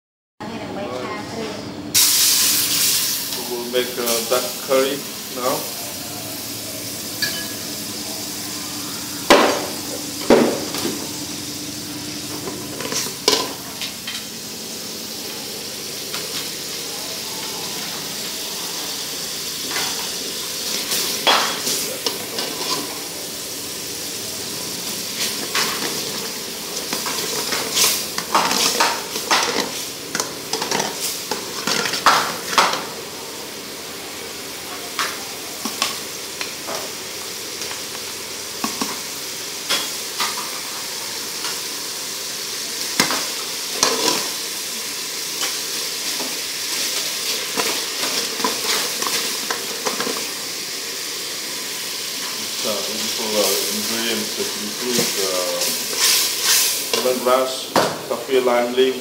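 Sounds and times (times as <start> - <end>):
liquid sizzling: 1.9 - 59.0.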